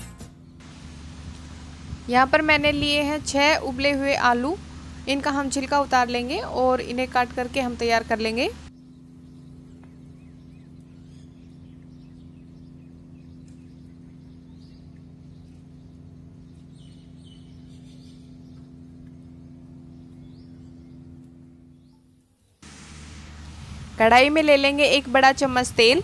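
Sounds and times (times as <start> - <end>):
steady low hum: 0.3 - 26.0
small birds chirping: 0.5 - 26.0.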